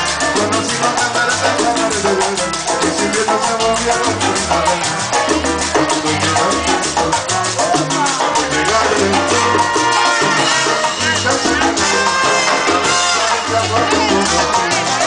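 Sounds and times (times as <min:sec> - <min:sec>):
deep bass line: 0:00.0 - 0:15.0
salsa band playing: 0:00.0 - 0:15.0.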